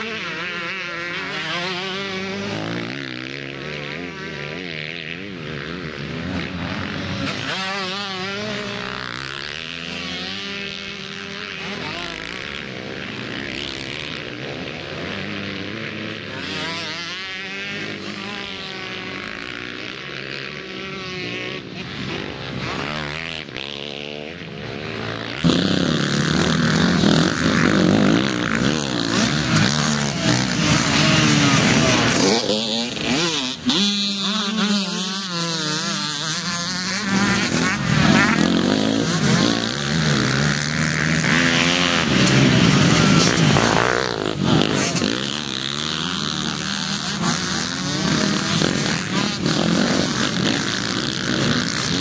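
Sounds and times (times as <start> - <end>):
motocross bikes racing past: 0.0 - 52.0.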